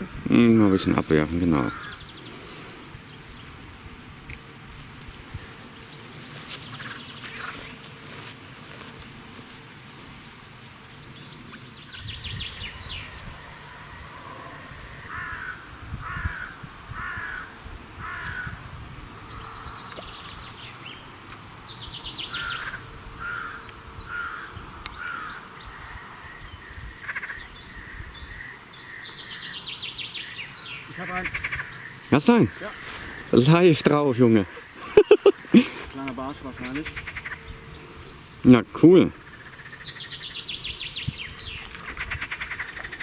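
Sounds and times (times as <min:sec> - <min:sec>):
bird calling: 0:00.0 - 0:04.0, 0:05.5 - 0:07.9, 0:08.8 - 0:43.0
other birds chirping: 0:00.0 - 0:43.0.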